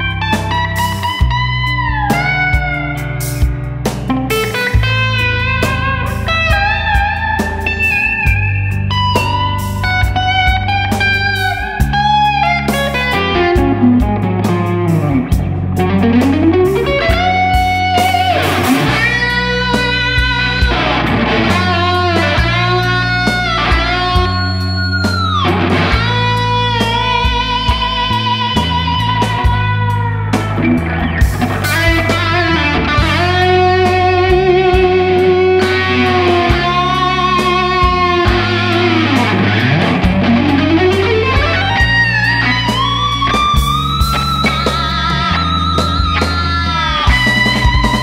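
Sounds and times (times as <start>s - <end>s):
bass guitar: 0.0s - 48.0s
distorted electric guitar lead: 0.0s - 48.0s
drums: 0.0s - 48.0s.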